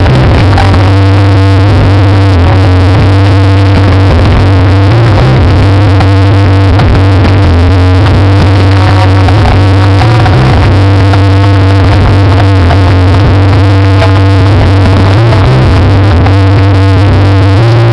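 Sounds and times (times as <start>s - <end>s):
deep bass: 0.0s - 17.9s
loud synthesizer music: 0.0s - 17.9s.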